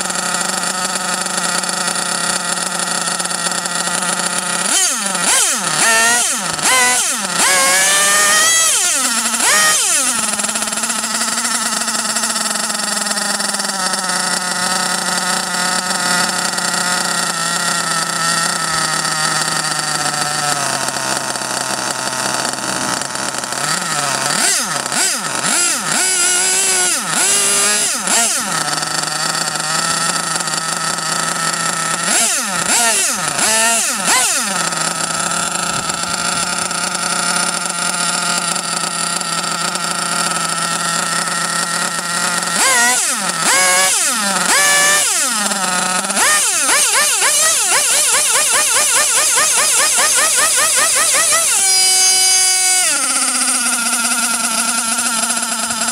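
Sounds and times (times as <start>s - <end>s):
small nitro engine idling and revving: 0.0s - 55.9s.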